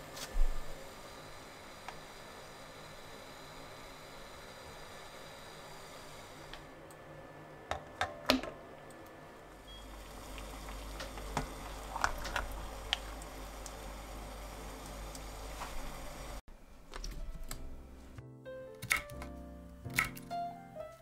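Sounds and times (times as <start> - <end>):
low background hum: 0.0 - 18.2.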